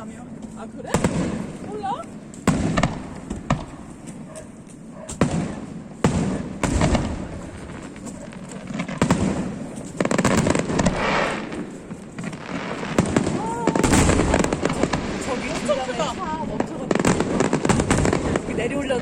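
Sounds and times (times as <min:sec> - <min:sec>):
fireworks booming: 0:00.0 - 0:19.0
fireworks crackling: 0:00.0 - 0:19.0.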